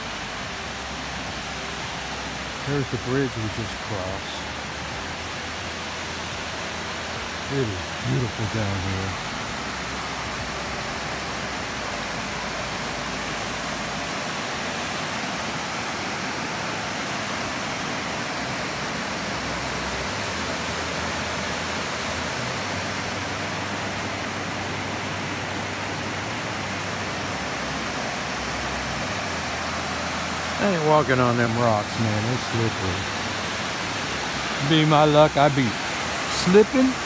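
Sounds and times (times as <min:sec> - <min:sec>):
creek pouring over stone dam: 0:00.0 - 0:37.0.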